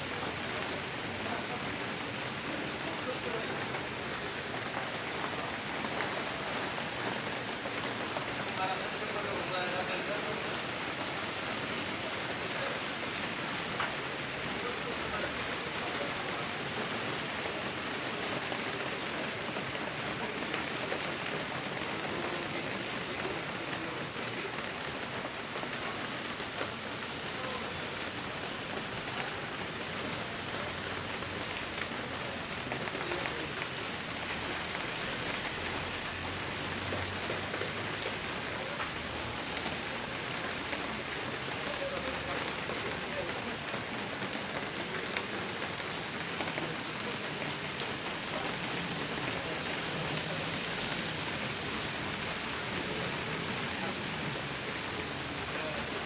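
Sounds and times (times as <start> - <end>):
rain falling: 0.0 - 56.0
raindrops ticking: 0.1 - 56.0.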